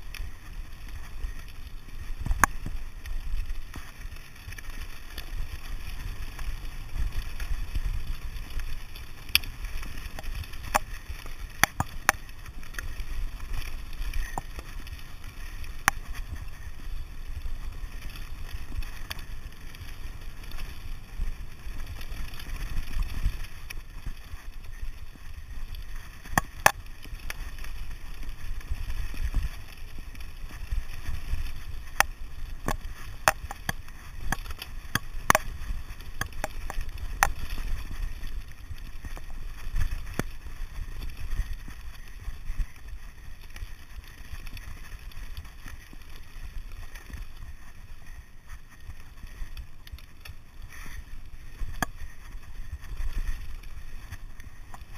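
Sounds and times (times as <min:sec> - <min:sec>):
bike clicks and rattles: 0:00.0 - 0:54.9
bike tyres on gravel: 0:00.0 - 0:54.9.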